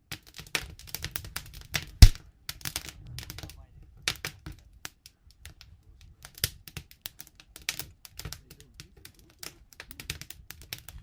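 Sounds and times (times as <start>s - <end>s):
burning wood popping: 0.1s - 3.0s, 4.1s - 11.0s.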